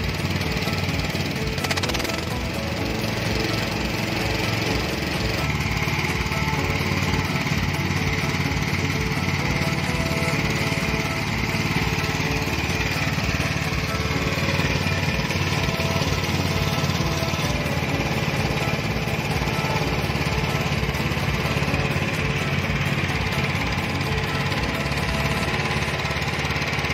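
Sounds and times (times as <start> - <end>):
lawn mower engine running: 0.0 - 26.9.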